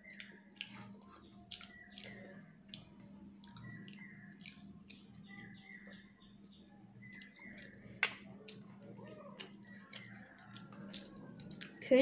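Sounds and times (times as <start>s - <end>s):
chewing and mouth smacks: 0.0s - 6.0s, 7.0s - 11.9s
faint low hum: 0.0s - 12.0s.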